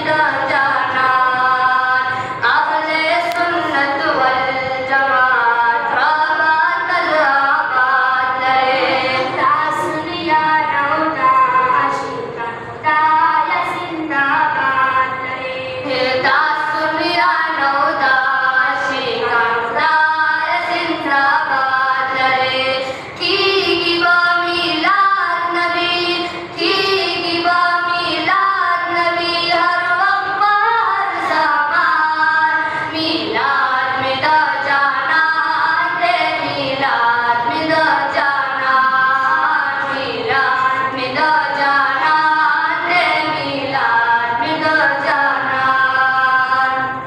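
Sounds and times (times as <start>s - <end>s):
boys singing devotional poetry: 0.0s - 47.0s.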